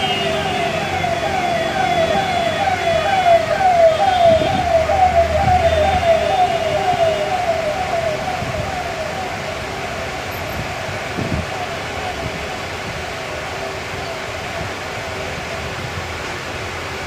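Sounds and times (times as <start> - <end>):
electronic siren: 0.0 - 14.8
low traffic rumble: 0.0 - 17.0.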